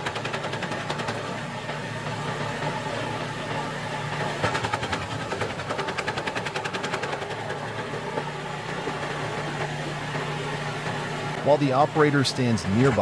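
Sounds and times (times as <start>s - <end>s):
wood chipper engine running: 0.0s - 13.0s.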